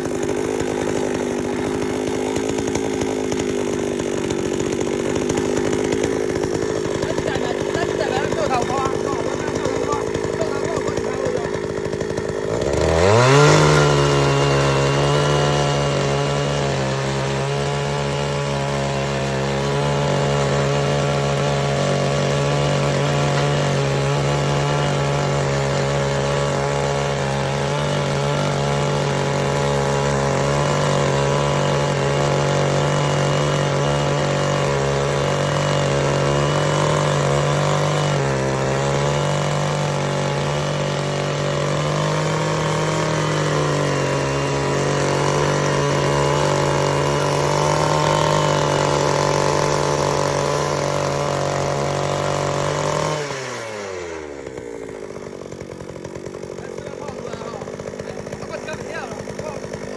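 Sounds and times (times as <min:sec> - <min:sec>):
small gasoline engine revving: 0:00.0 - 0:59.9.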